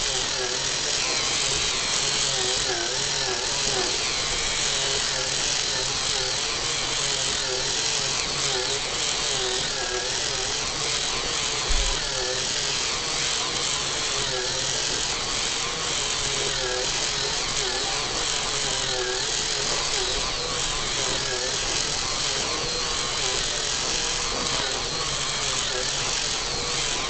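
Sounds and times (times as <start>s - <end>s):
toy motor and gears whirring: 0.0s - 27.0s.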